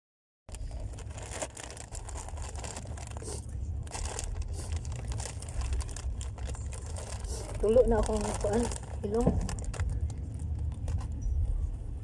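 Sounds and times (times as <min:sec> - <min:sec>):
foil snack bag crinkling: 0:00.5 - 0:11.2
steady low rumble: 0:00.5 - 0:12.0.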